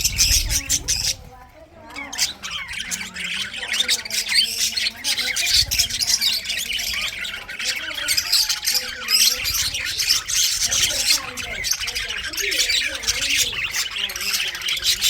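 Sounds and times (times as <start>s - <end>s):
budgerigars chattering and chirping: 0.0s - 15.0s.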